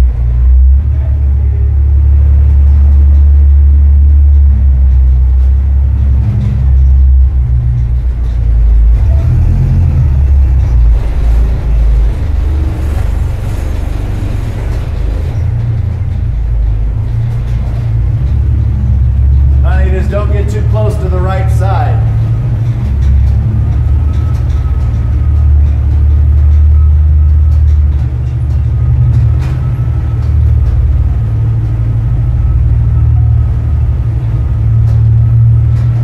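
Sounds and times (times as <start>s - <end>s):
engine low rumble: 0.0s - 36.0s.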